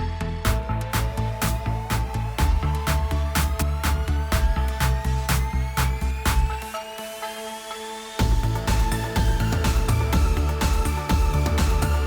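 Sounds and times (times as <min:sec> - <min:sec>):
electronic dance music: 0:00.1 - 0:12.0.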